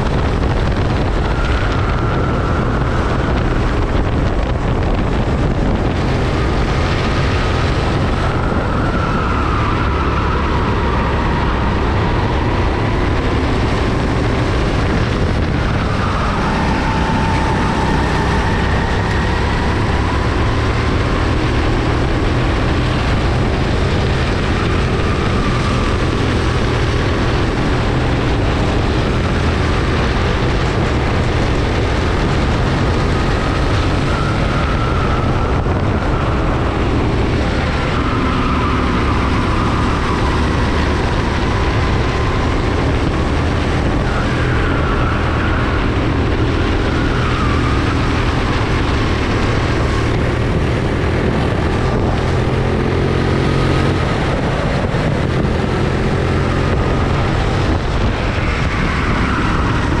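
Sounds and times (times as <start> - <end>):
go-kart engine whining: 0.0 - 60.0.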